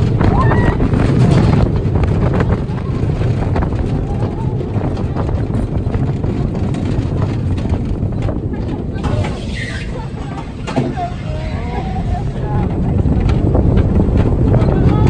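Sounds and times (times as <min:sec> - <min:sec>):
roller coaster car rumbling: 0:00.0 - 0:15.0
wind blowing over microphone: 0:00.0 - 0:15.0.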